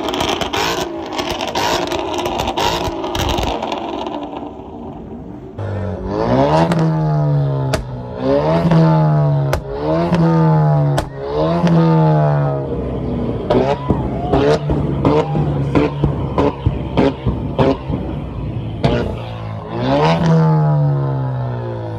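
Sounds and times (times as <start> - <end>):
car engine revving: 0.0 - 21.9
exhaust crack: 0.0 - 21.9.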